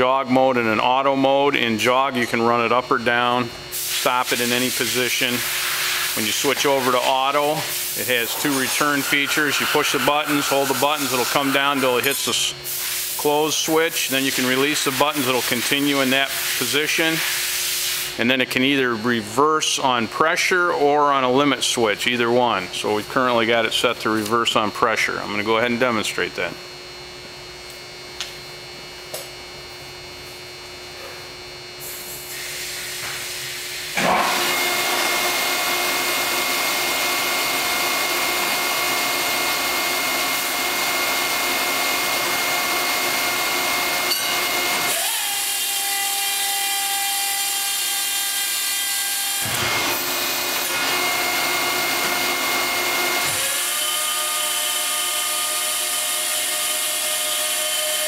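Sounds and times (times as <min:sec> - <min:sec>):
hydraulic power unit whine: 0:00.0 - 0:58.0.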